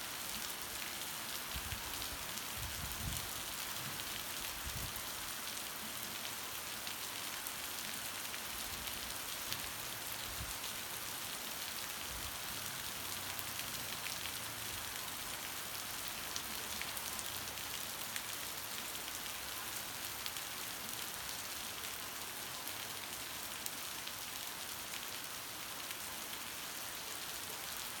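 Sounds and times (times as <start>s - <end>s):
heavy rain falling: 0.1s - 28.0s.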